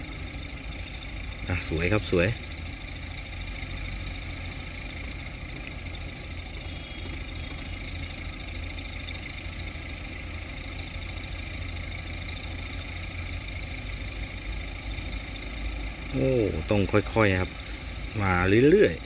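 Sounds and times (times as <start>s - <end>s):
diesel engine running at low revs: 0.0s - 19.0s.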